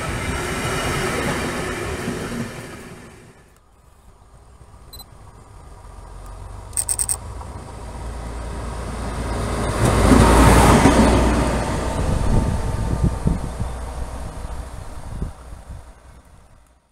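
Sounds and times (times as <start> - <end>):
diesel locomotive engine rumble: 0.0 - 16.9
wheel and rail noise: 0.0 - 16.9.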